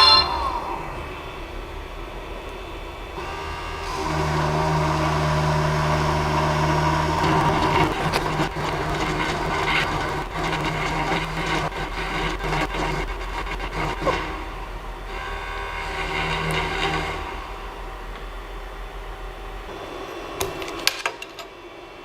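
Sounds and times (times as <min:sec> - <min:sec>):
spindle motor humming: 0:00.0 - 0:20.9.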